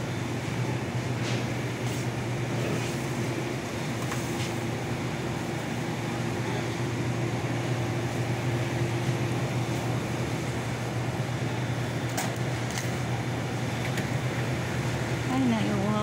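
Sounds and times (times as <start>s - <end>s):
low hum of coolers: 0.0s - 16.0s.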